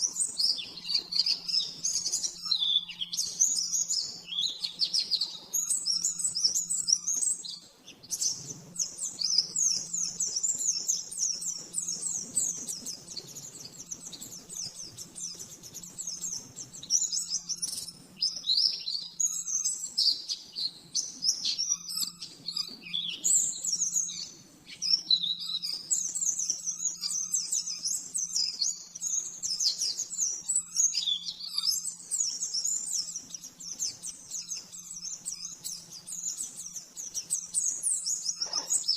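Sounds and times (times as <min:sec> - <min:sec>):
bird singing rapid chirps: 0:00.0 - 0:38.9.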